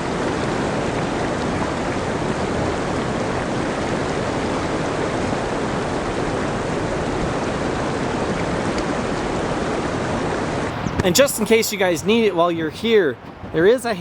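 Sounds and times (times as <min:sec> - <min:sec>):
creek rushing over rocks: 0:00.0 - 0:14.0.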